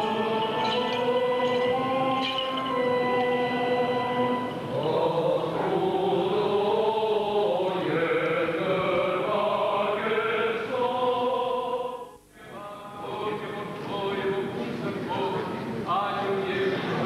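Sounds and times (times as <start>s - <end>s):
unaccompanied liturgical chant: 0.0s - 17.0s.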